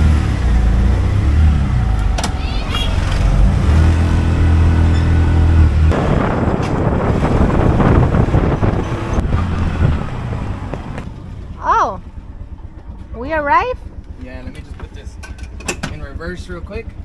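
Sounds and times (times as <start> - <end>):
wind and road rushing noise: 0.0 - 14.2.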